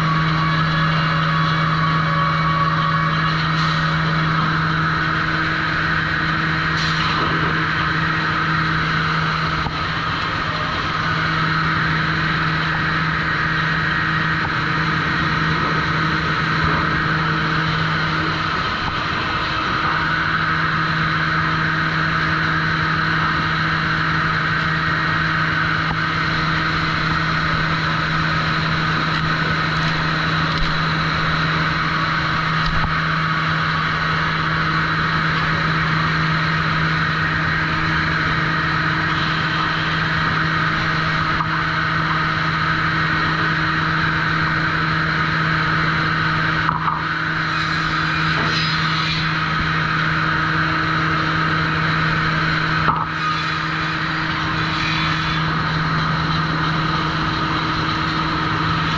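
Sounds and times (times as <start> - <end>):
sawmill machinery droning: 0.0 - 58.9.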